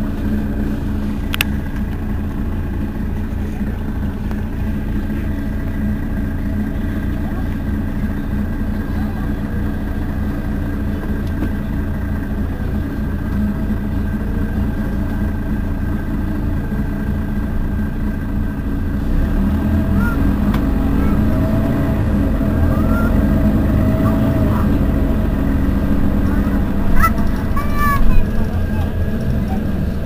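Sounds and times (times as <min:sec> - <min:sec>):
bus diesel engine idling: 0:00.0 - 0:30.0.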